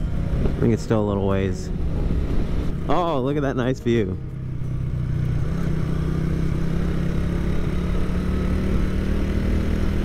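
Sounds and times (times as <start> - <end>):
motorcycle engine cruising: 0.0 - 10.0
road and wind noise: 0.0 - 10.0.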